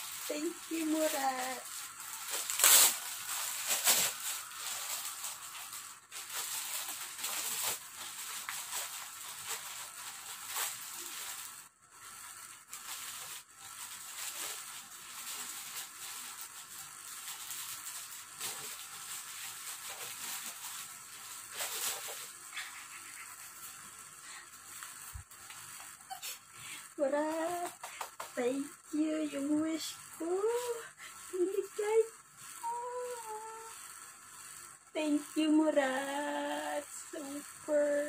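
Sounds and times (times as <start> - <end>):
plastic bag crinkling: 0.0 - 33.7.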